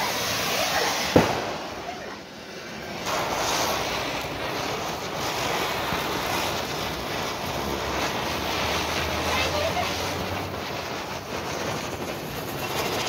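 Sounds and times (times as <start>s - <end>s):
firework fountains hissing: 0.0s - 13.0s.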